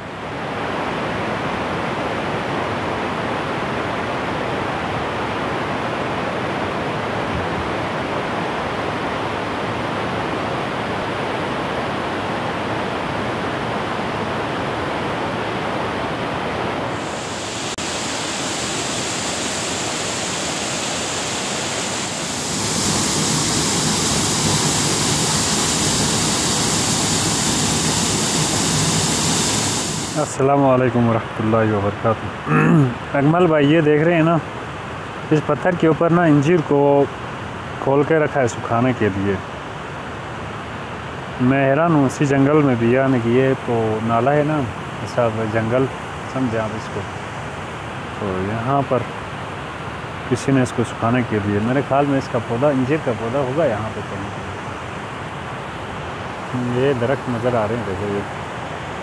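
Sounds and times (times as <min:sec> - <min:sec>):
mountain stream rushing: 0:00.1 - 0:30.6, 0:32.4 - 0:59.0.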